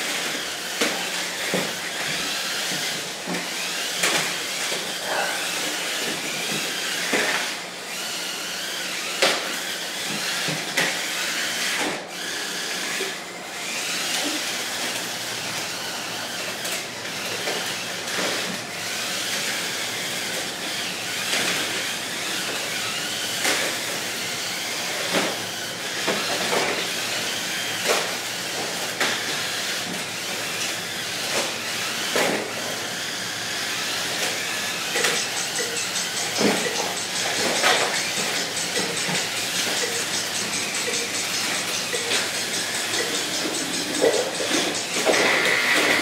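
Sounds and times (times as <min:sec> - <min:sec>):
small electric motors whining: 0:00.0 - 0:46.0.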